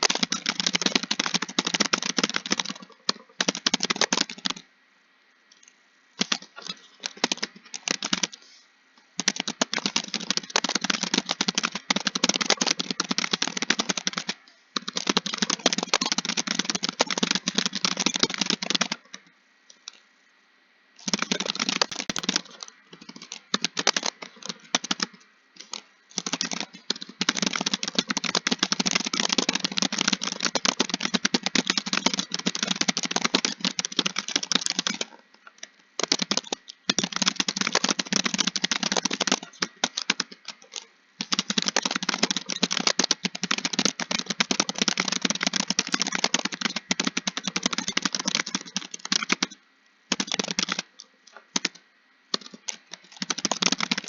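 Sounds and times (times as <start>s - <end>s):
fast keyboard typing: 0.0s - 4.7s, 6.2s - 8.4s, 9.2s - 19.2s, 21.0s - 54.0s.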